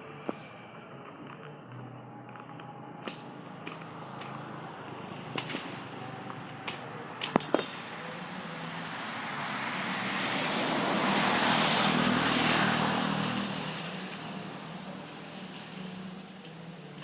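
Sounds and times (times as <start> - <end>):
vehicle passing by: 1.6 - 17.0.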